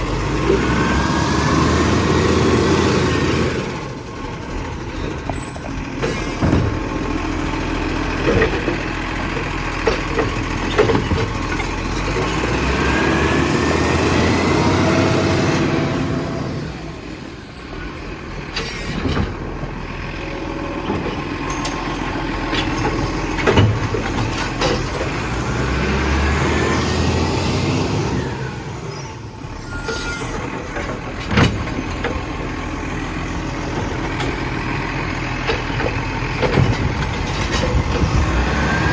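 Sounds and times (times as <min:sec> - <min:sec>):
garbage truck engine: 0:00.0 - 0:38.9.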